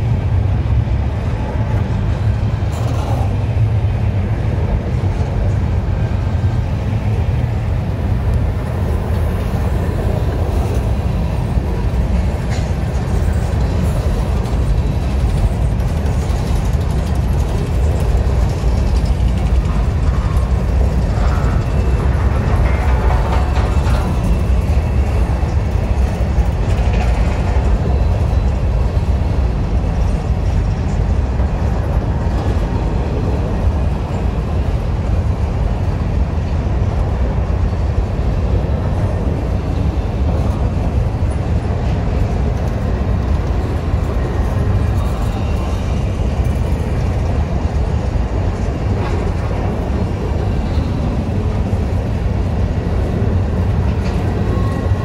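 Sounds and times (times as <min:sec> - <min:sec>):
diesel freight train rumbling: 0:00.0 - 0:55.0.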